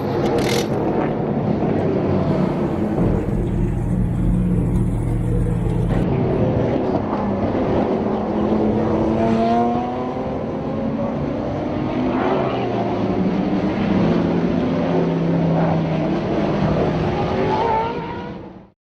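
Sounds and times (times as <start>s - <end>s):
race car engines revving: 0.0s - 18.6s.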